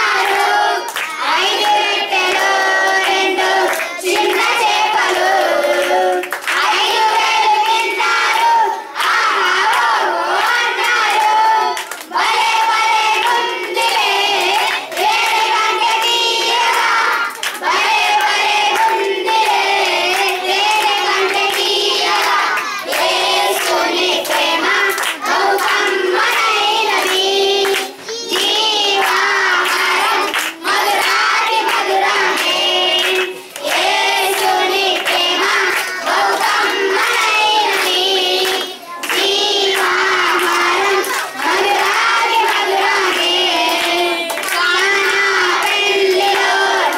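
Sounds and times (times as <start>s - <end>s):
boys singing into a microphone: 0.0s - 46.9s
hand claps: 0.0s - 46.9s.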